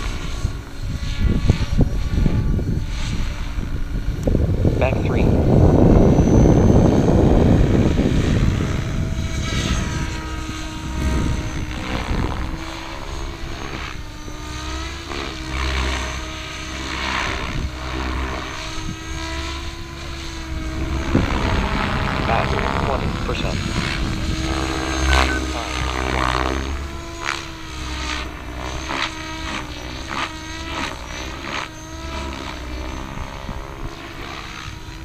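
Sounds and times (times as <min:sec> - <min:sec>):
rc helicopter motor whine: 0:00.0 - 0:35.0
rotor blade noise: 0:00.0 - 0:35.0.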